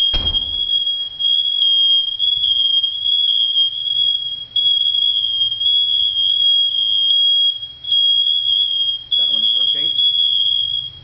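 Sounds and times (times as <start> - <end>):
smoke alarms sounding: 0.0 - 11.0.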